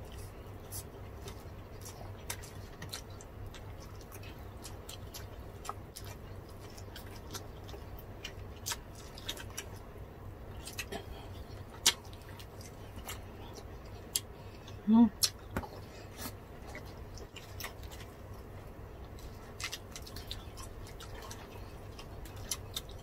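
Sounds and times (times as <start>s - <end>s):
low steady hum: 0.0s - 23.0s
people chewing and lip smacking: 0.0s - 23.0s.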